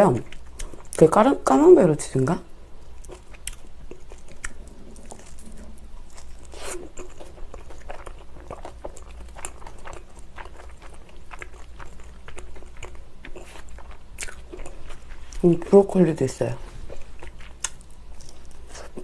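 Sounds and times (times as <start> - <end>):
mouth chewing food: 0.0 - 1.0, 3.0 - 15.5, 16.8 - 19.0
faint low hum: 0.0 - 19.0.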